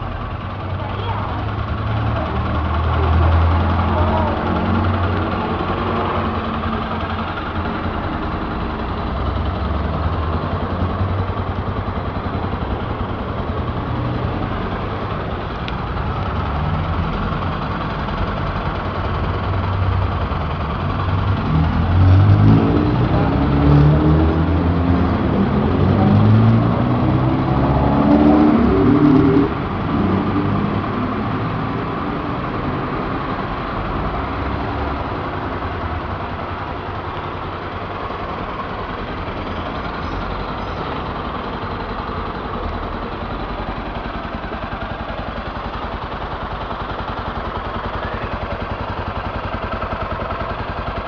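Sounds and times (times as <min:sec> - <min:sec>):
motorcycle engine idling and revving: 0:00.0 - 0:51.0.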